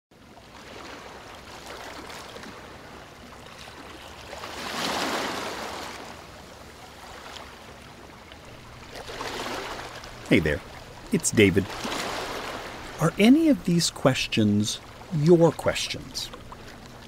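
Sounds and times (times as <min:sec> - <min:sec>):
water rushing: 0:00.6 - 0:17.0.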